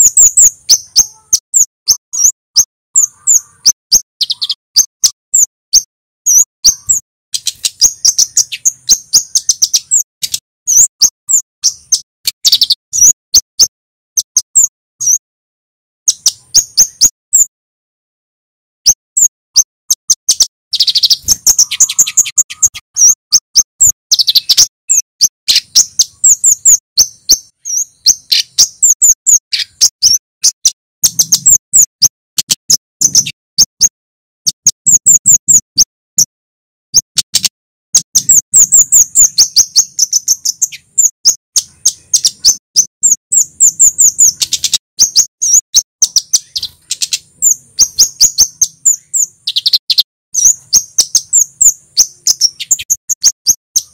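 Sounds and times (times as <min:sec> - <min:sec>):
bird singing high sharp notes: 0:00.0 - 0:15.2, 0:16.1 - 0:17.5, 0:18.8 - 0:36.3, 0:36.9 - 0:53.9.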